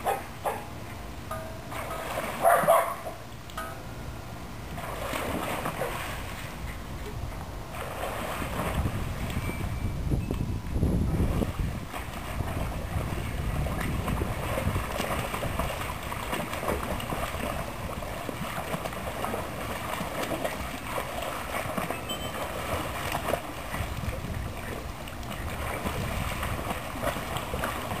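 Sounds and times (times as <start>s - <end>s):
pool water splashing: 0.0s - 10.0s, 10.7s - 28.0s.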